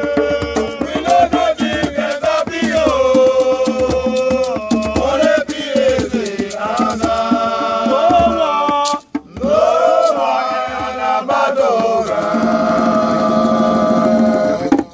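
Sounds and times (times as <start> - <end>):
men singing in harmony: 0.0 - 14.9.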